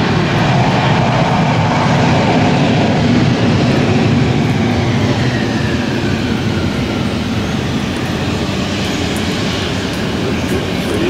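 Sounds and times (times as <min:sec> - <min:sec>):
jet engine roar and tyre spray: 0:00.0 - 0:11.0.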